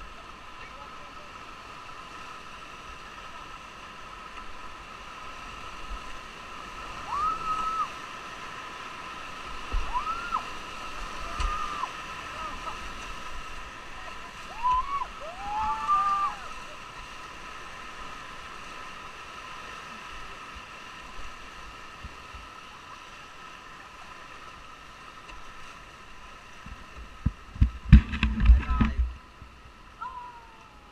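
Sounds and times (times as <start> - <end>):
whitewater rushing: 0.0 - 30.9.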